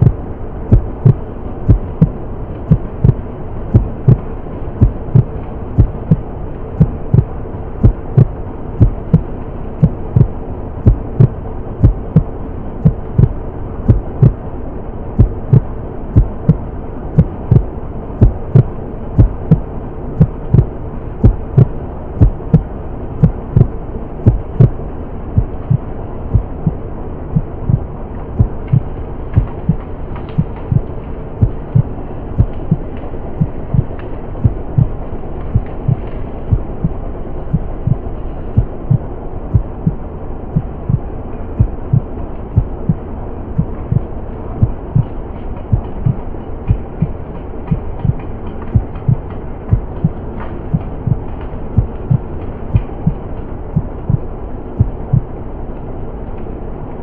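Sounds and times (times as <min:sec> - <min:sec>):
heartbeat thumps: 0:00.0 - 0:26.8, 0:27.4 - 0:40.0, 0:40.6 - 0:43.0, 0:43.6 - 0:45.1, 0:45.7 - 0:53.2, 0:53.8 - 0:55.4
constant hum: 0:00.0 - 0:57.0.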